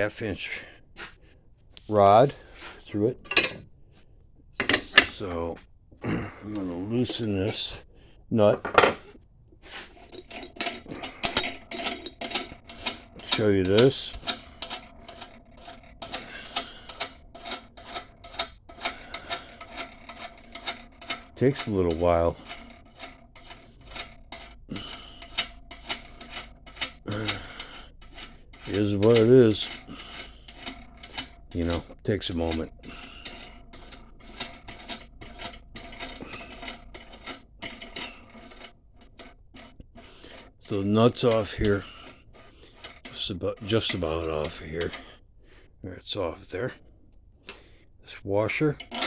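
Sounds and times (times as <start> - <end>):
metallic rasping of nut on rod: 1.8 - 3.6, 4.6 - 5.5, 6.4 - 49.0.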